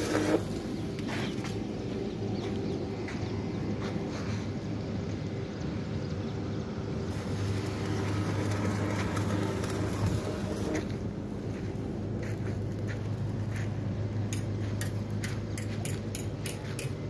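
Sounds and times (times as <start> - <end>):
welder low hum: 0.0 - 17.0.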